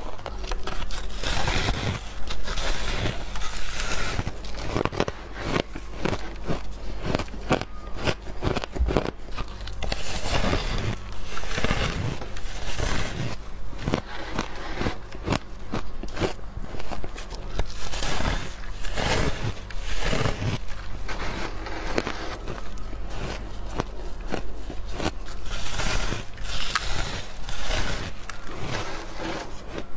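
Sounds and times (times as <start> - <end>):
crunching shaved ice: 0.0 - 29.9.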